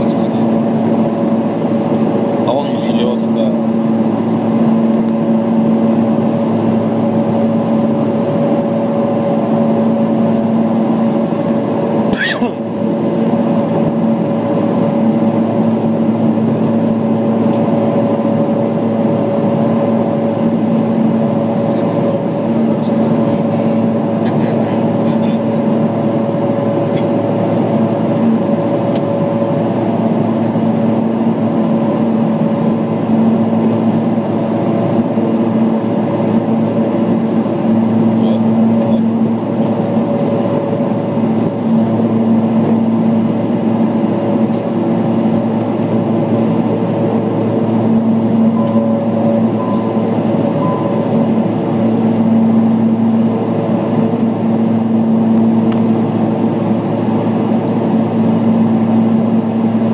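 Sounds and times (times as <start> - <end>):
aircraft engine drone in cabin: 0.0 - 59.9.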